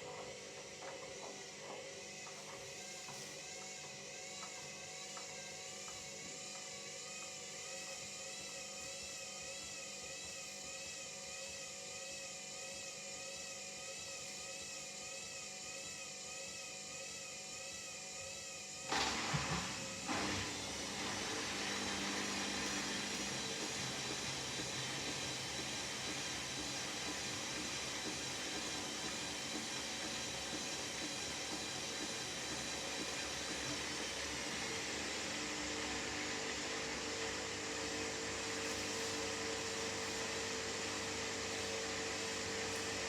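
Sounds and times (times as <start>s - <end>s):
washing machine whine: 0.0s - 43.0s.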